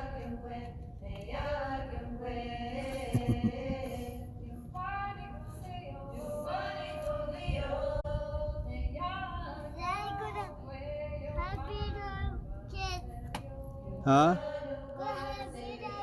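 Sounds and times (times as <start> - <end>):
girls singing unaccompanied: 0.0 - 16.0.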